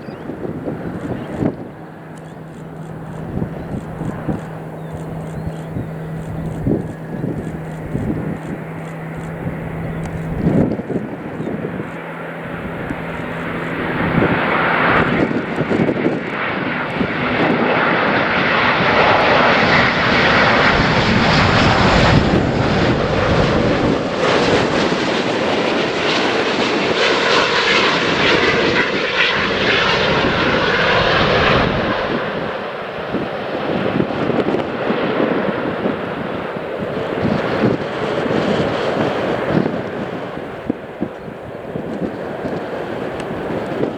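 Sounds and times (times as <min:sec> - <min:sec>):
jet airliner passing close: 0:00.0 - 0:43.9.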